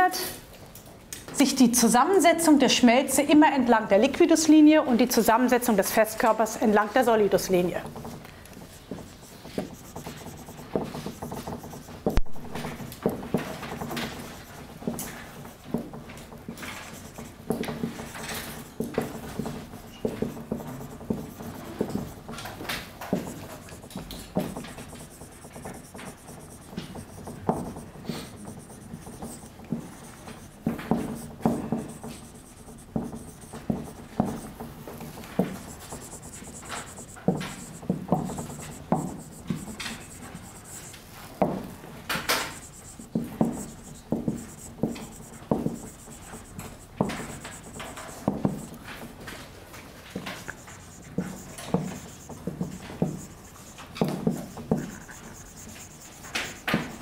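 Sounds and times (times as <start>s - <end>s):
marker pen writing on whiteboard: 1.4s - 57.0s.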